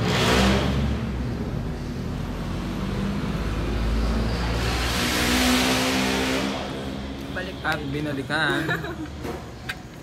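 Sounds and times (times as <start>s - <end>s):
road traffic rumble: 0.0s - 10.0s
vehicles passing: 0.0s - 10.0s.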